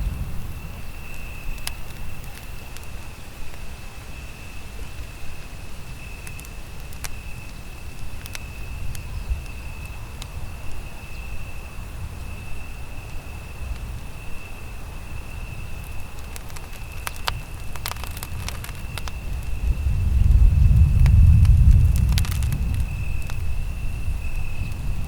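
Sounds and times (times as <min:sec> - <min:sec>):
campfire crackling and popping: 0:00.0 - 0:11.0, 0:12.6 - 0:14.3, 0:15.0 - 0:25.0
insect trill: 0:00.0 - 0:25.0.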